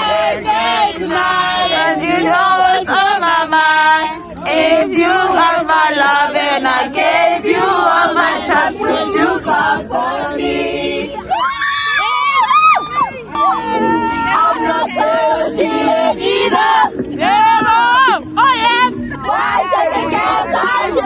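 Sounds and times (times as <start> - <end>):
group of people singing: 0.0 - 11.5, 13.3 - 21.0.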